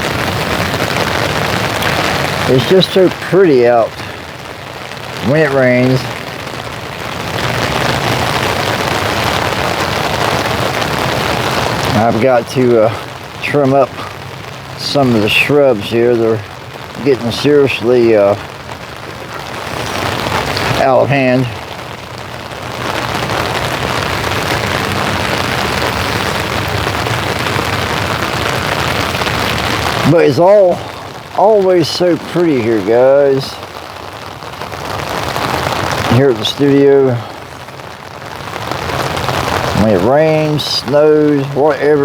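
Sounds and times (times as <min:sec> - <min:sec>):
rain pattering on surfaces: 0:00.0 - 0:42.0.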